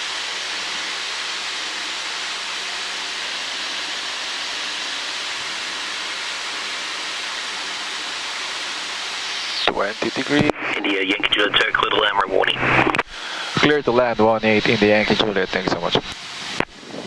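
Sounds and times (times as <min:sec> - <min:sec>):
aircraft cabin engine and airflow hiss: 0:00.0 - 0:17.0.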